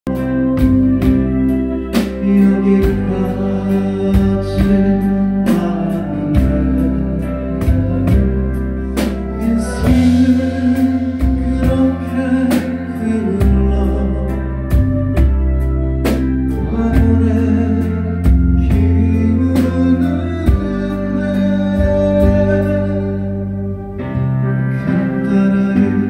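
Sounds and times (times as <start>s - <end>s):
live band playing: 0.0s - 26.0s
man singing into microphone: 0.1s - 15.4s, 16.5s - 23.7s, 24.6s - 26.0s.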